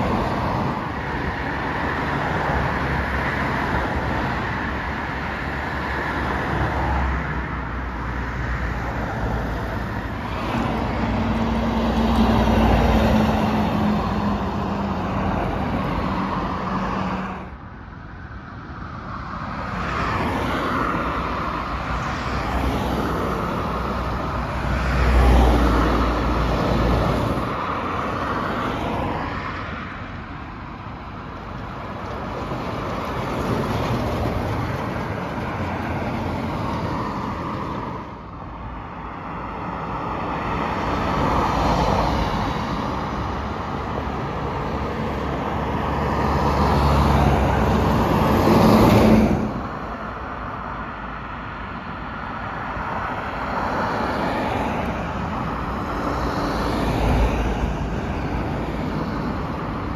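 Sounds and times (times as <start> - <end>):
traffic passing: 0.0 - 59.9.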